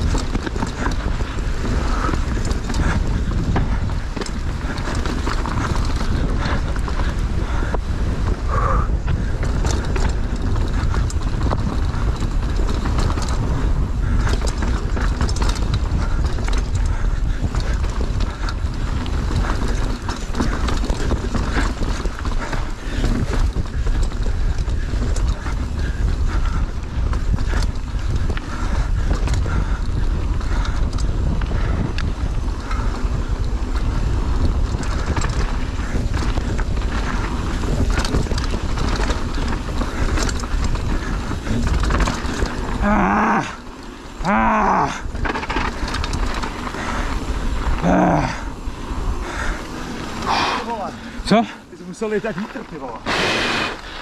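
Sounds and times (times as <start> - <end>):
bike rattling and knocking: 0.0 - 54.0
wind buffeting microphone: 0.0 - 54.0.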